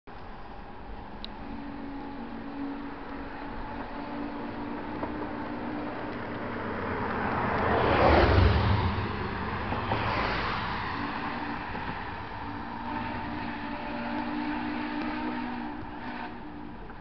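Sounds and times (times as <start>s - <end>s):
road traffic passing: 0.1s - 17.0s.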